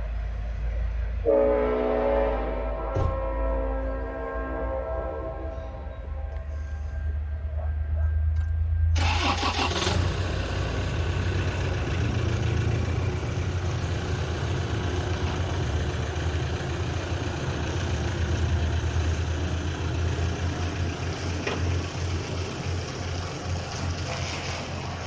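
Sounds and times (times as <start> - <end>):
diesel locomotive engine rumble: 0.0 - 25.0.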